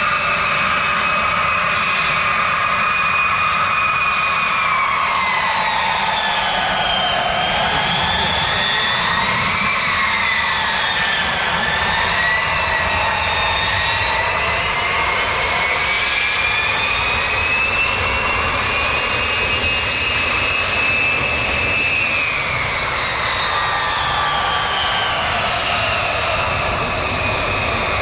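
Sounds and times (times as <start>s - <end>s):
jet engines rushing and whining: 0.0s - 28.0s.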